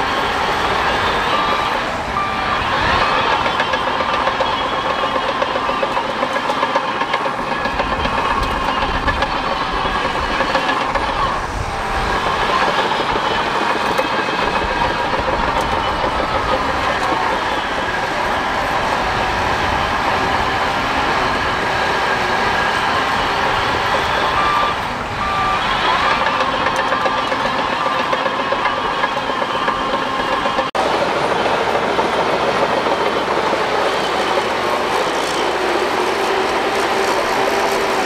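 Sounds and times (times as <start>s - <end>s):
bulldozer diesel engine: 0.0s - 38.0s
reversing alarm beeping: 0.0s - 38.0s
steel tracks clattering: 0.0s - 38.0s.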